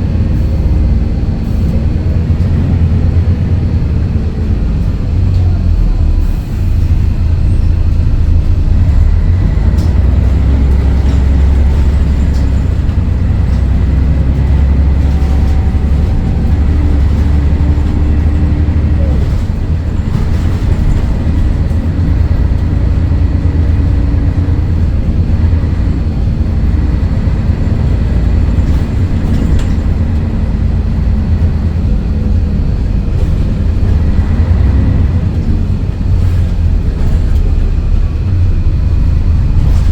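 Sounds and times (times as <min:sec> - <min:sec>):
bus diesel engine drone: 0:00.0 - 0:39.9.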